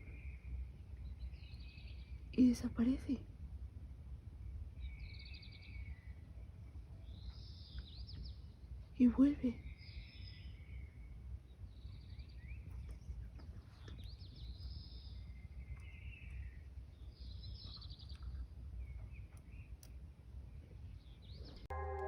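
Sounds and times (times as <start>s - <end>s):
birds chirping: 0.0s - 3.3s, 4.3s - 22.0s
low background rumble: 0.0s - 22.0s.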